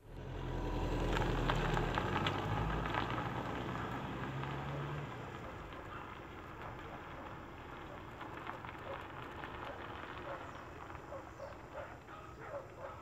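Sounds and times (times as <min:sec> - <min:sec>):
car engine hum: 0:00.0 - 0:13.0
tyre noise on rough pavement: 0:00.0 - 0:13.0.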